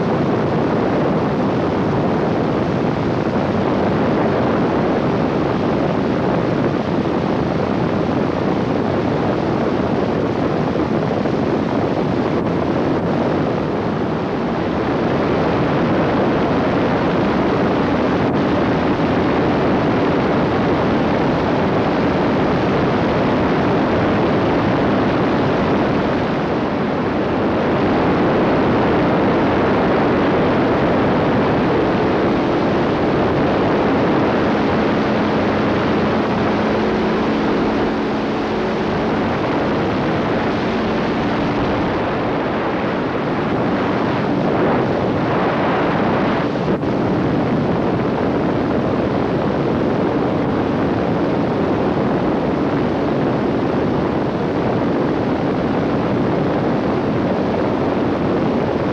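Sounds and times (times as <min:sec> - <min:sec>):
aircraft engine and propeller: 0:00.0 - 0:58.9
wind noise on microphone: 0:00.0 - 0:58.9.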